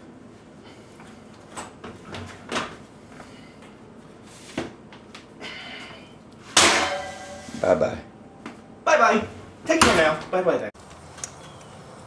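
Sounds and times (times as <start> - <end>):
kitchen room noise: 0.0 - 11.7.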